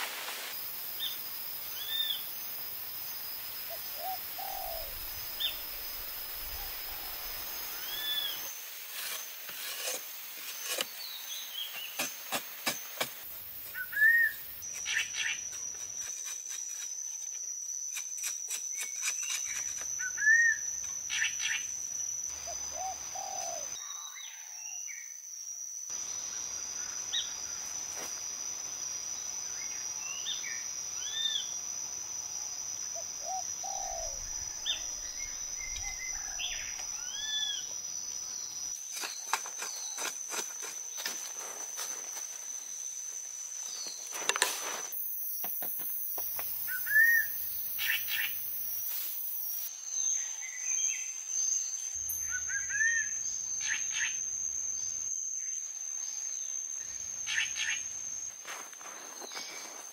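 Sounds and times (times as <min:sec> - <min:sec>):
insect buzzing: 0:00.0 - 0:24.2, 0:24.9 - 0:50.0.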